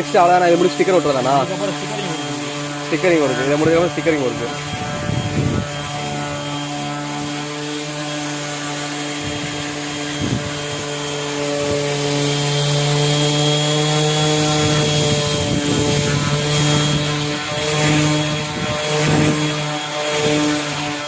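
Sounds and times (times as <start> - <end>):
buffing machine motor hum: 0.0 - 21.0
buffing wheel rubbing on wood: 0.0 - 21.0.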